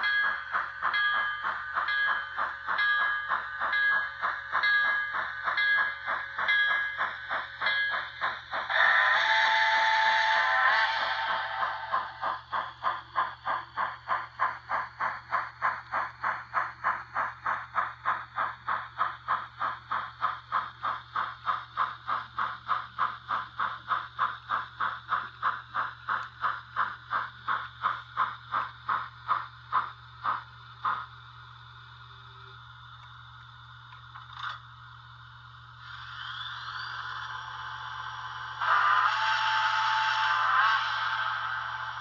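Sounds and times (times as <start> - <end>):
steam chuffs from tiny speaker: 0.0 - 31.3, 35.8 - 42.0.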